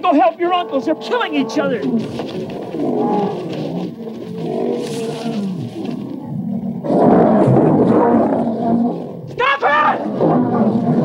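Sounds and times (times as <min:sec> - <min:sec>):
lions growling: 0:00.4 - 0:11.0.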